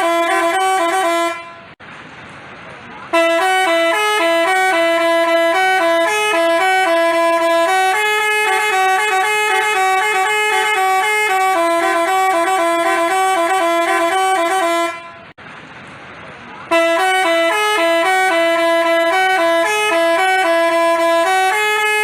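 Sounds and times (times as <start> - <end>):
bus musical horn playing a tune: 0.0 - 1.8, 3.1 - 15.4, 16.7 - 22.0.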